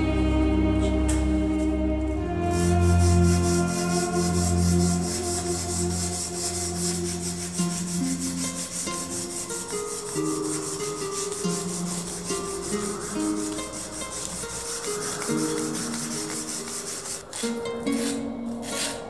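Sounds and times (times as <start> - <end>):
hand sanding steel blade: 2.3 - 19.0.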